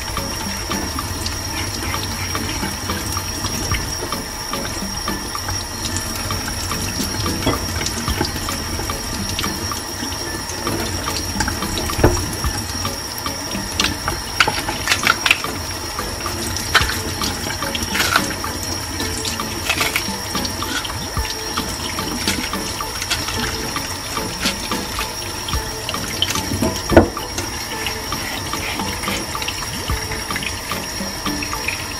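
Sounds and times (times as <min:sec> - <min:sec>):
tap running into metal sink: 0:00.2 - 0:12.6, 0:13.3 - 0:31.8.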